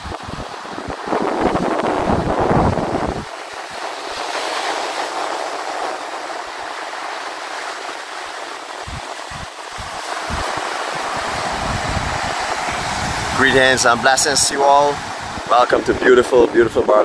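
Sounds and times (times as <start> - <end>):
waves washing up a beach: 0.0 - 17.0
wind buffets on microphone: 0.0 - 17.0.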